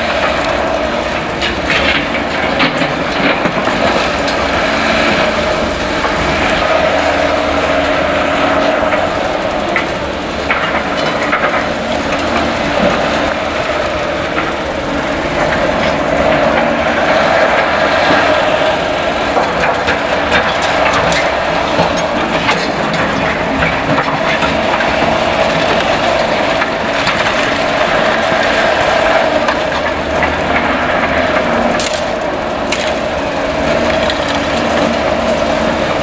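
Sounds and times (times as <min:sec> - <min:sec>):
excavator engine and hydraulics whine: 0:00.0 - 0:36.0
rubble and steel clanking: 0:00.0 - 0:36.0.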